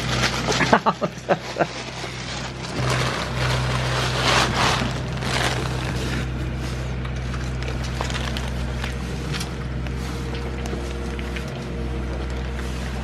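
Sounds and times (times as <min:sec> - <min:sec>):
rustling against microphone: 0:00.0 - 0:11.6
steady low hum: 0:00.0 - 0:13.0.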